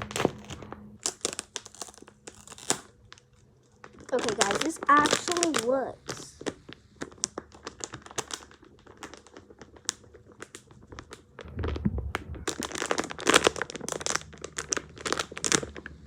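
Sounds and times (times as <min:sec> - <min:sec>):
plastic crinkling: 0:00.0 - 0:16.0.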